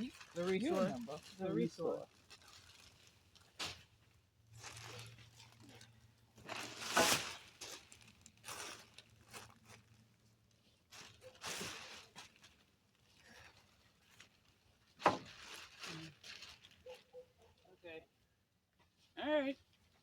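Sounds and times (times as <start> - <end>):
rustling of handled materials: 0.0 - 20.0.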